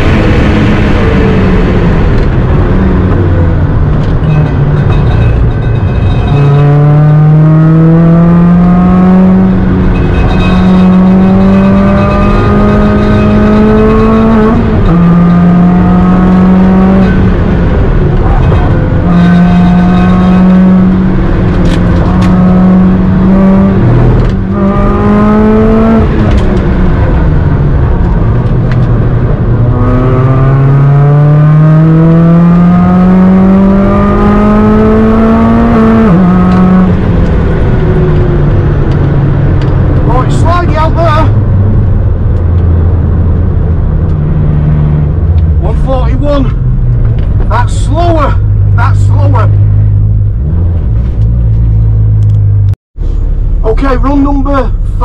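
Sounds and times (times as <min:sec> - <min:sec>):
car engine revving through gears: 0:00.0 - 0:52.8.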